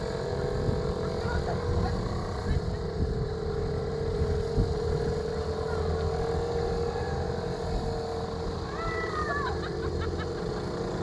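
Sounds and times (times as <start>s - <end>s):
bumper boat motors humming: 0.0s - 11.0s.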